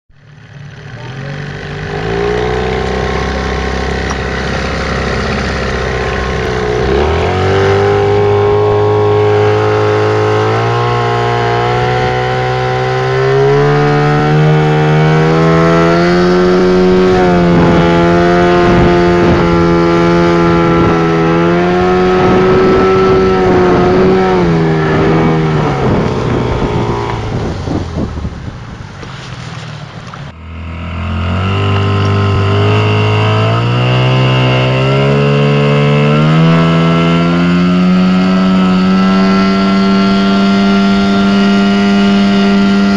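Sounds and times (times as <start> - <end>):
outboard motor running: 0.1 - 42.9.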